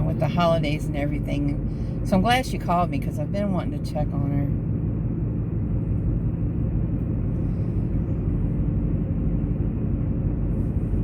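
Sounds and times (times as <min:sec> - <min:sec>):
steady low rumbling: 0:00.0 - 0:11.0.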